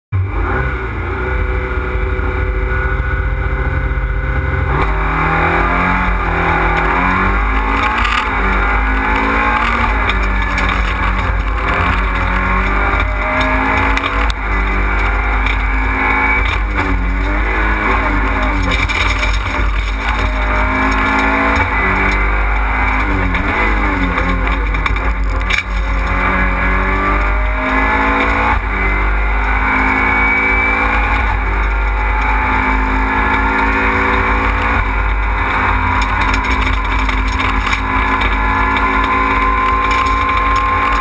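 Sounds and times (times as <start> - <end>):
car engine accelerating: 0.1 - 41.0.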